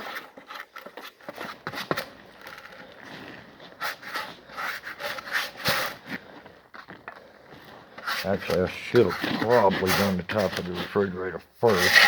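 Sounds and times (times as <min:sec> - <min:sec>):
rubbing and scraping strokes: 0:00.0 - 0:12.0.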